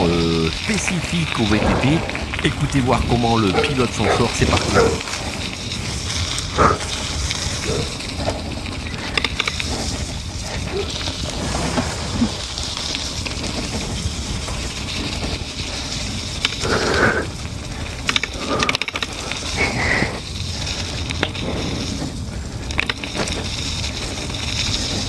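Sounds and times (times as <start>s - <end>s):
bike clicks and rattles: 0.0s - 25.0s
tyres crunching over stones: 0.0s - 25.0s
wind rumbling on microphone: 0.0s - 25.0s.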